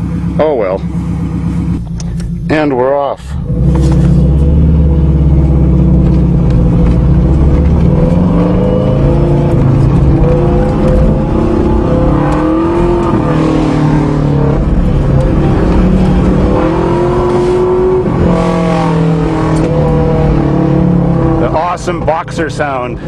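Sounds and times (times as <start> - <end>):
car engine revving under load: 0.0 - 23.0.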